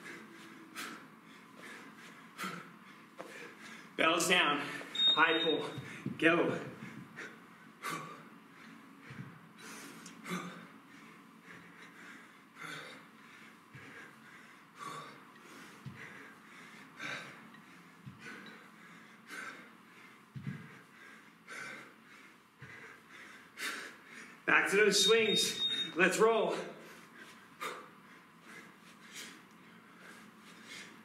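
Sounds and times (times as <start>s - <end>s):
man breathing hard: 0.0s - 4.0s, 5.6s - 24.5s, 25.2s - 31.0s.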